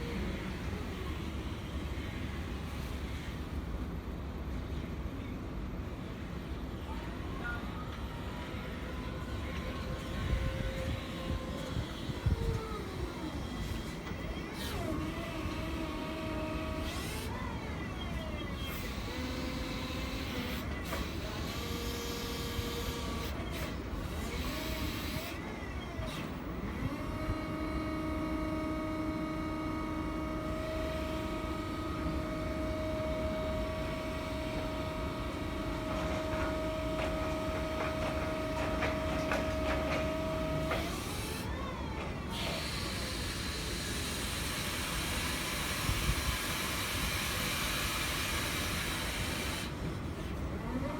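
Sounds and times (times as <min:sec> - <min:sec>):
electric motor whining: 0:08.8 - 0:49.9.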